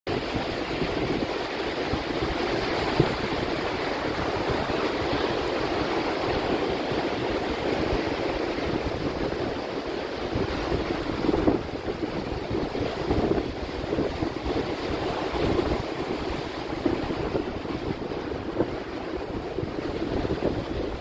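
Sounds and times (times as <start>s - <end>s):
surf breaking on a beach: 0.1s - 21.0s
wind buffeting the microphone: 0.1s - 21.0s.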